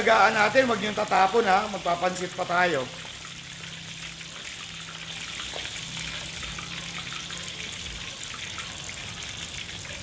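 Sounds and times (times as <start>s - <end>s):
oil sizzling in a wok: 0.0s - 10.0s.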